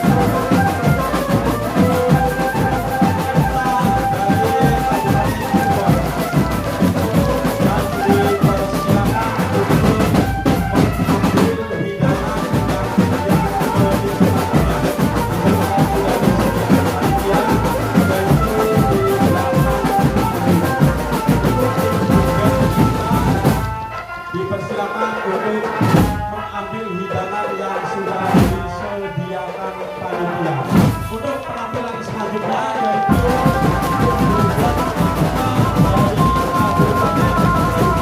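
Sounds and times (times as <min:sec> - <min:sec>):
bass and snare drums marching: 0:00.0 - 0:24.2, 0:25.7 - 0:26.4, 0:28.2 - 0:28.8, 0:30.6 - 0:31.7, 0:33.1 - 0:38.0
band melody: 0:00.0 - 0:38.0.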